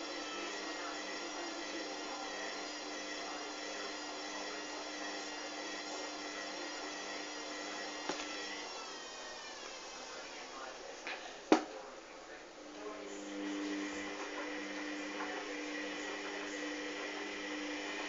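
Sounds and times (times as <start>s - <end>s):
washing machine motor whining: 0.0s - 18.0s.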